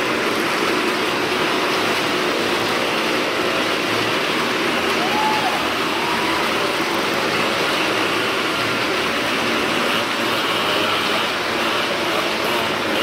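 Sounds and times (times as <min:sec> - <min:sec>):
motorcycle and car engines: 0:00.0 - 0:13.0.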